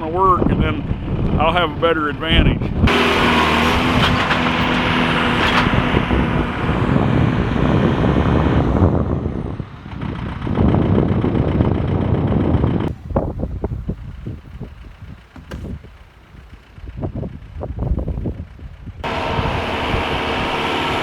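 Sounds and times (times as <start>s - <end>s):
tractor engine running hard: 0.0s - 21.0s.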